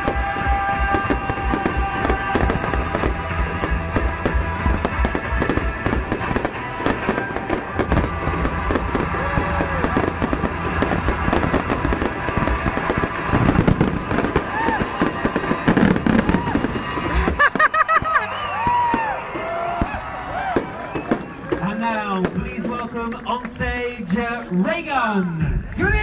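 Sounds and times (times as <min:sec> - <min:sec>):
fireworks bangs and crackles: 0:00.0 - 0:26.0
music playing: 0:00.0 - 0:26.0.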